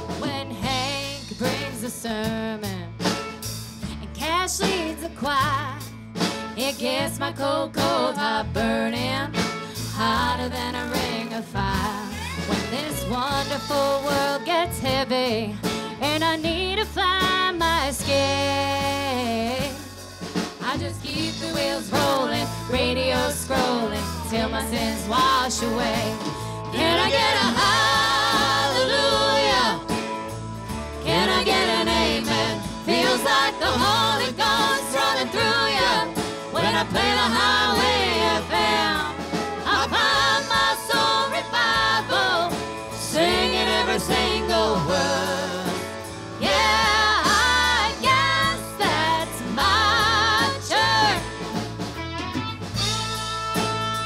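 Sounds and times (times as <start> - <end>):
woman singing: 0.0 - 3.1, 3.9 - 5.9, 6.5 - 19.9, 20.6 - 30.0, 31.0 - 51.4
live country band playing: 0.0 - 54.0.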